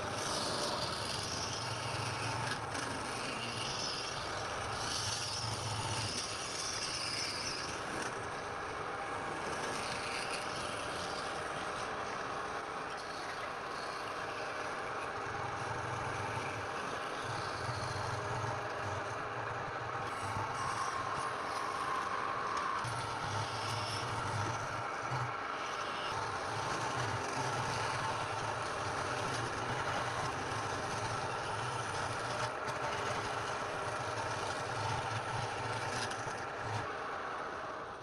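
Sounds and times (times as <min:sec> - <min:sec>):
wood lathe turning wood: 0:00.0 - 0:38.0.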